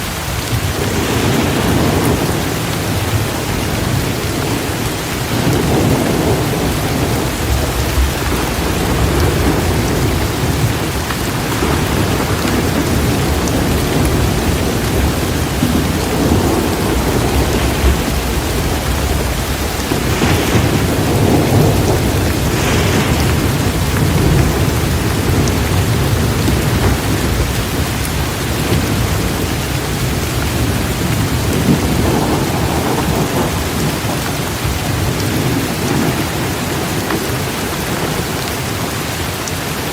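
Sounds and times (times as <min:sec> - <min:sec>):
rolling thunder: 0:00.0 - 0:39.1
heavy rain pouring: 0:00.0 - 0:39.9.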